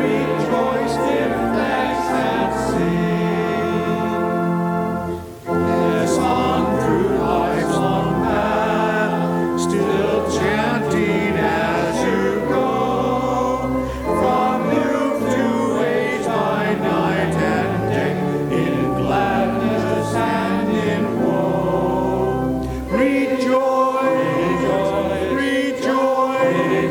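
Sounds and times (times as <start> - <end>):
church choir singing: 0.0 - 26.9.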